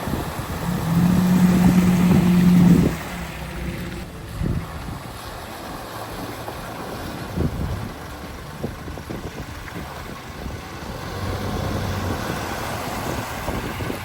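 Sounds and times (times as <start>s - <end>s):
off-road vehicle engine rumble: 0.0s - 14.0s.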